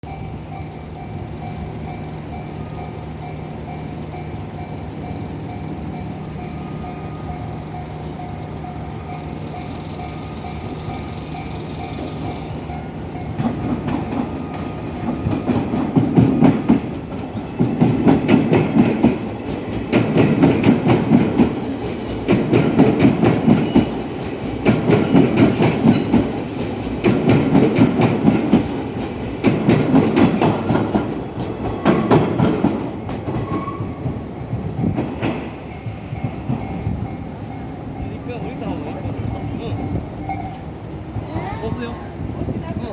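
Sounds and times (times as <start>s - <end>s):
train wheels clattering over rail joints: 0.2s - 42.9s.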